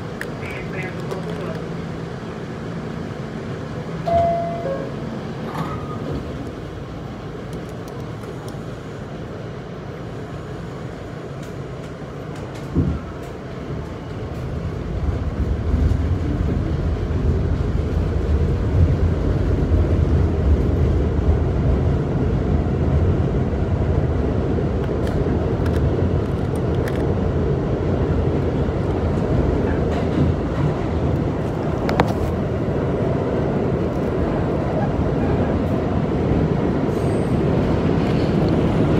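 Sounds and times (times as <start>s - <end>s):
subway train rumble: 0.0s - 38.9s.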